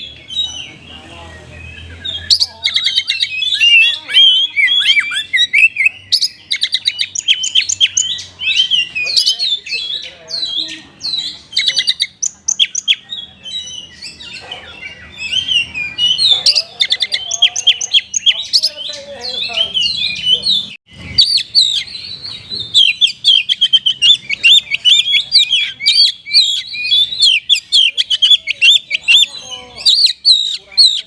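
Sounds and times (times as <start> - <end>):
songbird singing chirps and whistles: 0.0 - 31.0.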